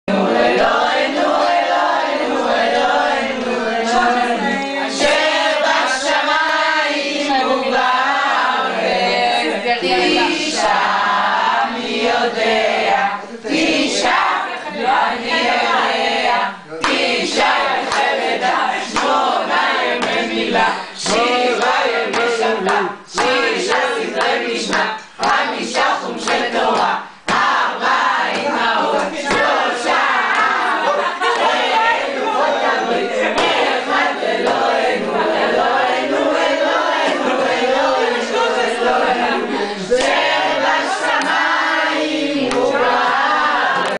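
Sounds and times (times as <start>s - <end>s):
group singing together: 0.1s - 43.9s.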